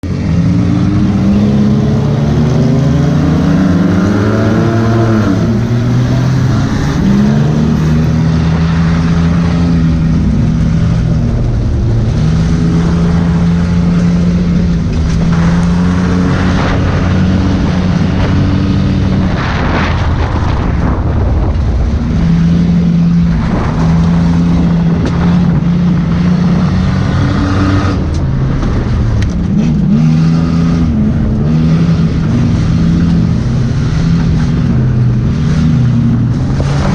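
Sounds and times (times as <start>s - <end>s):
race car engines: 0.0s - 36.9s.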